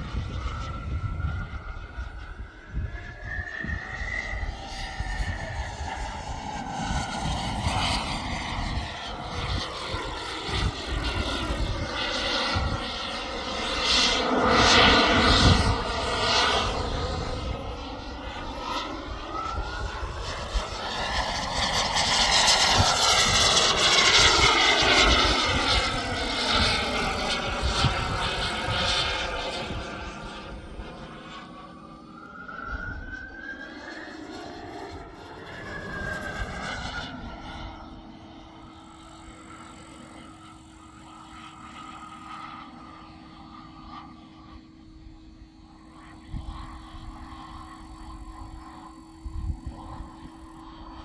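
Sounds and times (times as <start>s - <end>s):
model jet turbine whine passing: 0.0s - 51.0s.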